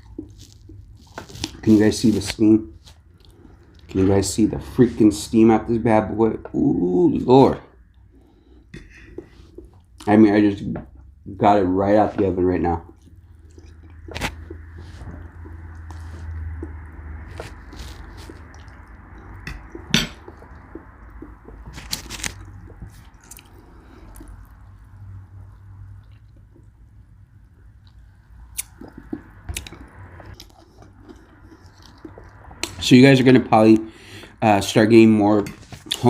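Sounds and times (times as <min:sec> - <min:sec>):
wet squishing and chewing: 0:00.0 - 0:05.0, 0:07.2 - 0:11.4, 0:12.0 - 0:34.0, 0:35.4 - 0:36.0.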